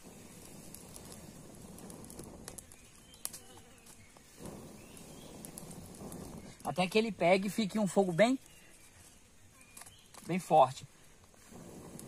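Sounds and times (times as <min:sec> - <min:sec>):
air rushing from fanning: 0:00.0 - 0:12.0
twigs crackling: 0:00.0 - 0:12.0.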